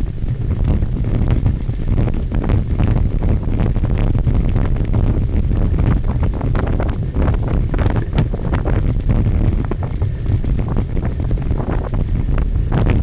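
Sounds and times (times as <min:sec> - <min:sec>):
bike rattling over rough ground: 0:00.0 - 0:13.0
wind buffeting on microphone: 0:00.0 - 0:13.0.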